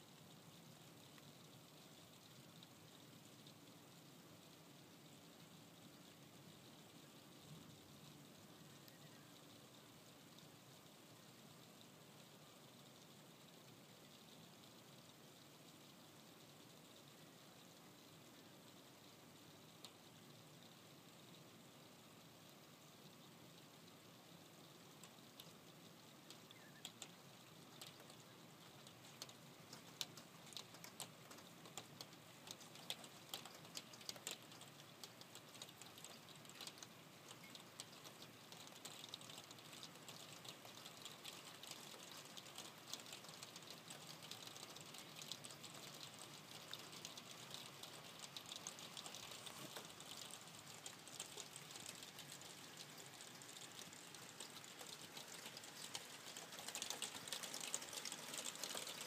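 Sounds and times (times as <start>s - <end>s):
raindrops ticking on a surface: 0.0s - 59.0s.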